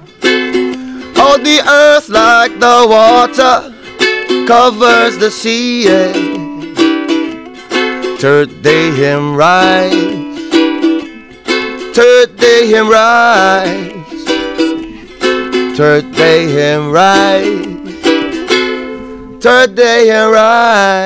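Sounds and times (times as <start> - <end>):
ukulele strummed and picked: 0.0 - 21.0.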